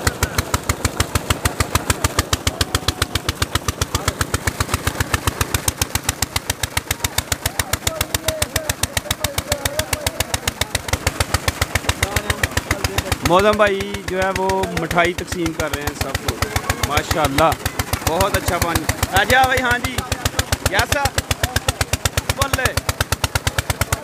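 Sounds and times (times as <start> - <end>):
diesel engine running: 0.0 - 24.0
water splashing from pipe: 0.0 - 24.0.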